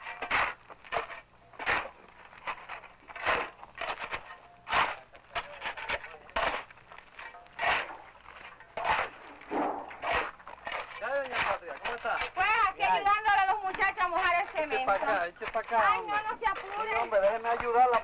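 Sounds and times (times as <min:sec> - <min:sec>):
shovel digging sandy ground: 0:00.0 - 0:18.0.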